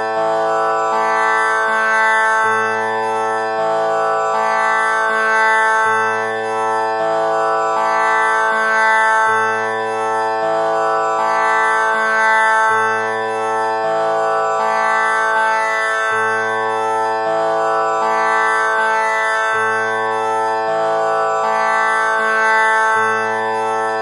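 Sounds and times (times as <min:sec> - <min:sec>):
tanpura drone: 0:00.0 - 0:24.0.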